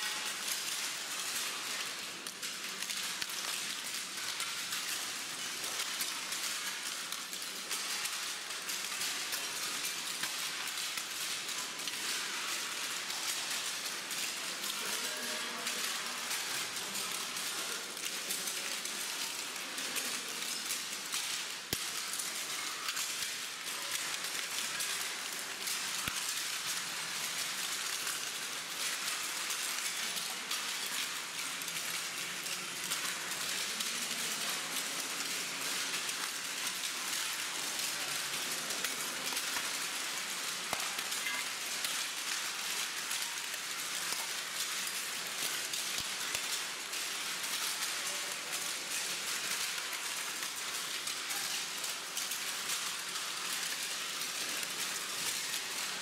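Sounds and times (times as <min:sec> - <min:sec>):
footsteps on crackling paper: 0:00.0 - 0:56.0.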